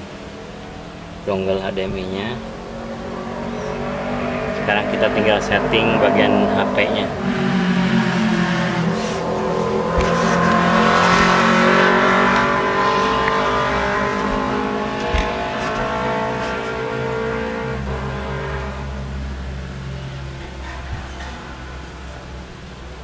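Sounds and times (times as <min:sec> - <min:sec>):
loud vehicle engine running: 0:00.0 - 0:23.0.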